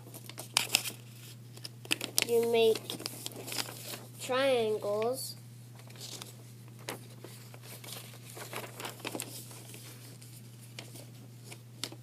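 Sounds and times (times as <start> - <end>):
paper being folded and creased: 0.1 - 4.1, 5.8 - 12.0.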